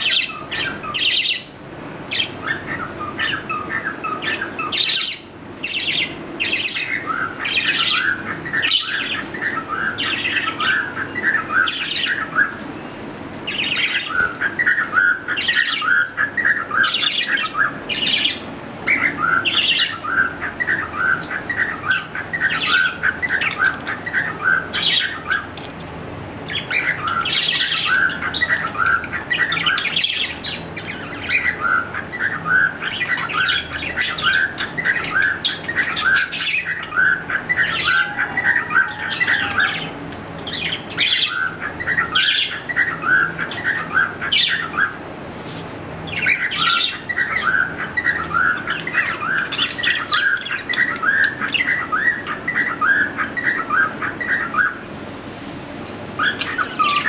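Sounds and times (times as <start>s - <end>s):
budgerigars chattering: 0.0s - 12.6s, 13.4s - 54.8s, 56.1s - 57.0s.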